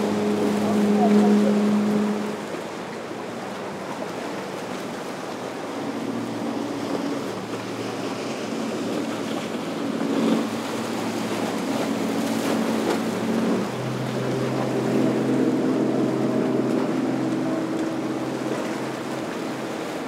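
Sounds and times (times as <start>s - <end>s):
motorboat engines humming: 0.0s - 20.0s
surf washing: 0.0s - 20.0s
wind: 0.0s - 20.0s.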